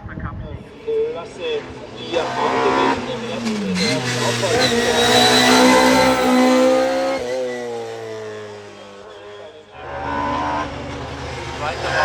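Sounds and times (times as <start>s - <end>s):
race car engine at high revs: 0.7s - 12.0s.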